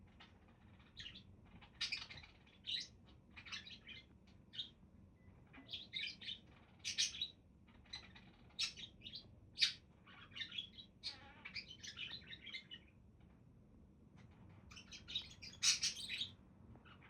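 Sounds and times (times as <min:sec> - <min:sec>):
budgerigars chirping and warbling: 0:00.1 - 0:04.8, 0:05.5 - 0:13.0, 0:14.2 - 0:17.0.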